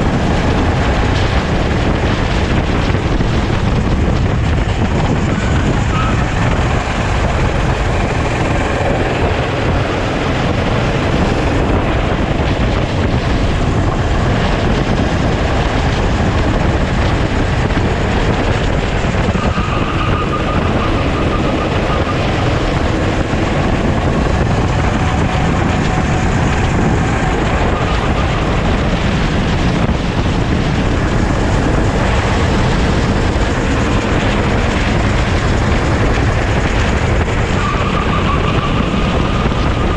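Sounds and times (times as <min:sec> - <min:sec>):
kart engine racing: 0:00.0 - 0:39.9
wind noise on microphone: 0:00.0 - 0:39.9.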